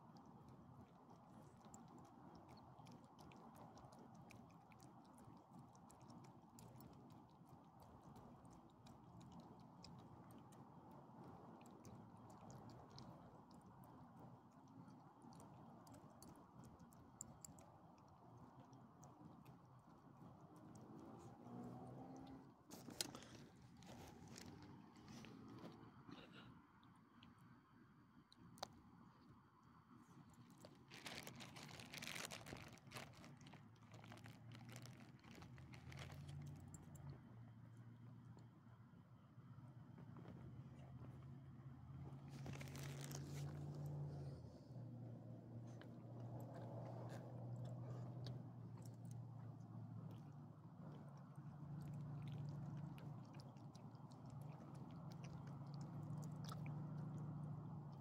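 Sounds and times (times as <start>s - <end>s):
dogs chewing and crunching: 0.0s - 26.3s, 30.0s - 37.2s, 41.9s - 58.0s.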